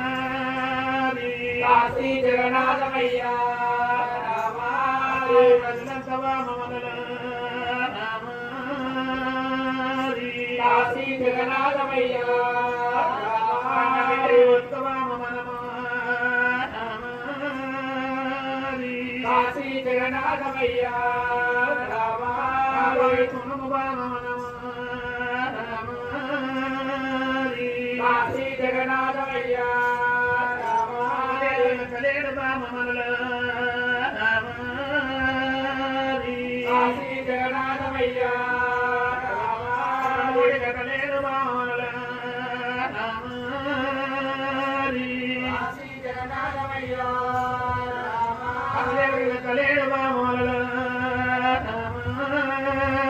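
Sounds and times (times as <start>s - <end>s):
man singing chant-like refrain: 0.0s - 53.0s.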